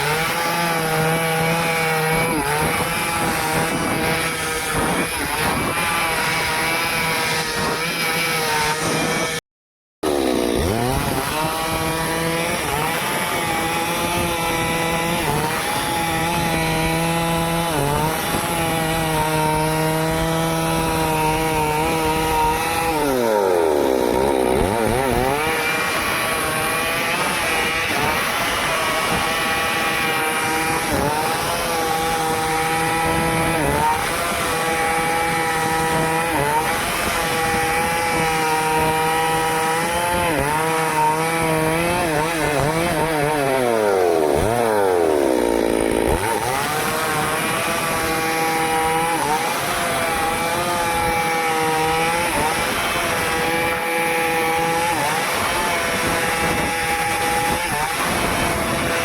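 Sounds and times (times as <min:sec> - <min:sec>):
chainsaw cutting wood: 0:00.0 - 0:09.4, 0:10.0 - 0:59.0.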